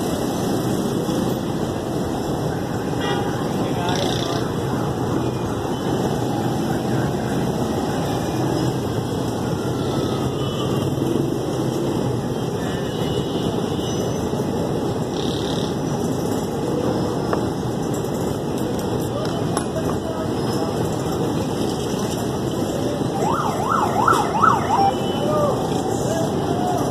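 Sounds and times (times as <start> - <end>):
street traffic rumble: 0.0 - 26.9.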